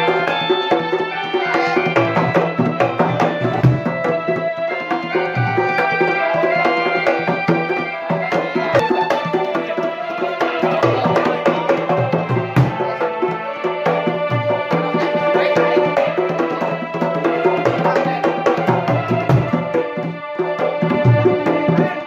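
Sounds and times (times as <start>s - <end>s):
hand drums and bass drum: 0.0s - 22.0s.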